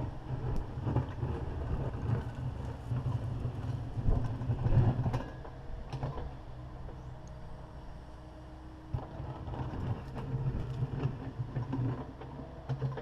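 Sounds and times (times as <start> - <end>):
excavator diesel engine working: 0.0 - 13.0.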